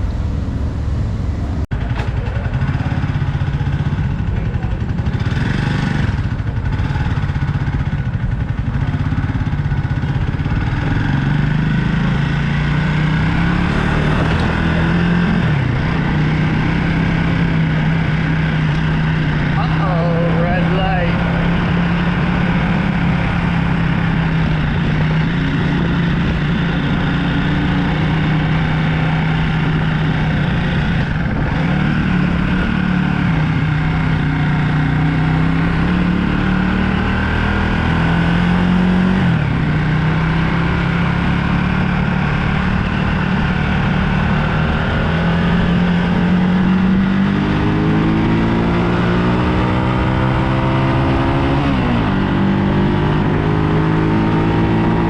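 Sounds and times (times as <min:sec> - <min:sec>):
motorbike engine running: 0:00.0 - 0:55.0.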